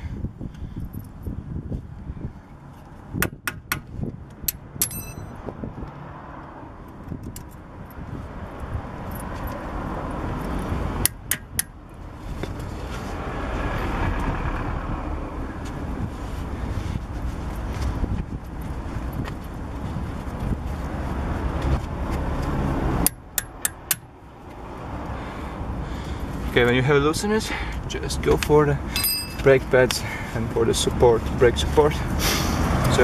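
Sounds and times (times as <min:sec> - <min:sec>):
passing vehicle rumble: 0:04.0 - 0:11.1, 0:11.7 - 0:33.0.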